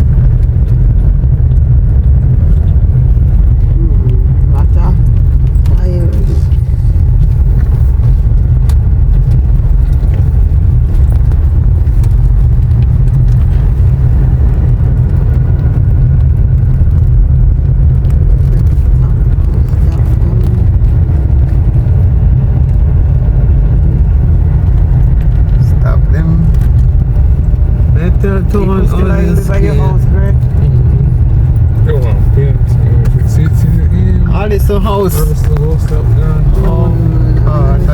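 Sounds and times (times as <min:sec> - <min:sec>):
car driving rumble: 0:00.0 - 0:37.9.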